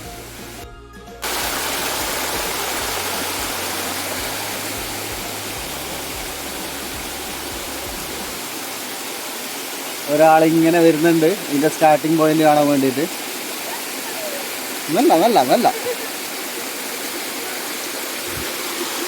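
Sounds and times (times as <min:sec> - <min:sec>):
waterfall rushing: 0:01.2 - 0:19.0.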